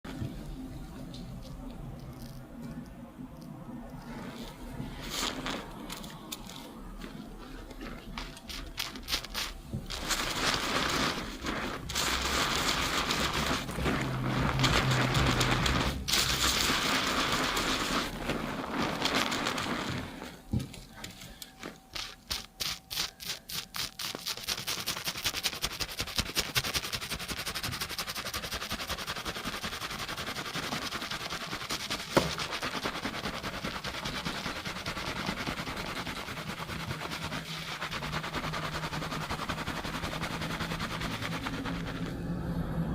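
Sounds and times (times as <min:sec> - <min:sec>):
hands scrubbing lathered hair: 0:04.0 - 0:20.4, 0:21.8 - 0:42.5.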